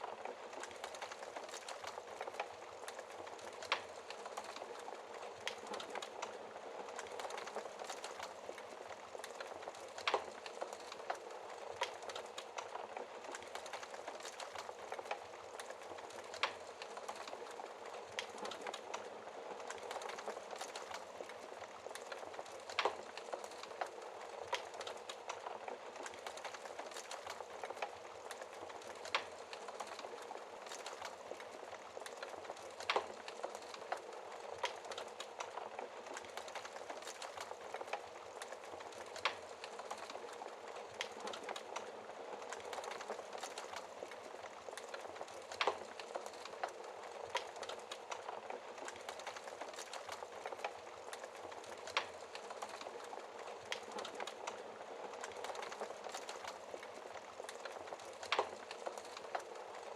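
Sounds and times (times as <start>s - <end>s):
fire popping: 0.0s - 59.9s
wood fire crackling: 0.0s - 59.9s.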